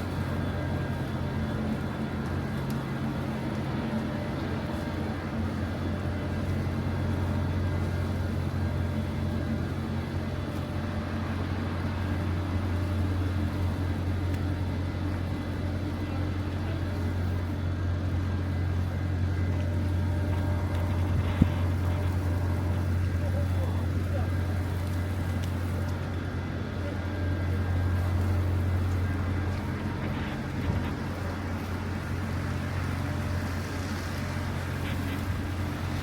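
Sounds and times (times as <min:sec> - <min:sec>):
city street traffic rumble: 0:00.0 - 0:36.0.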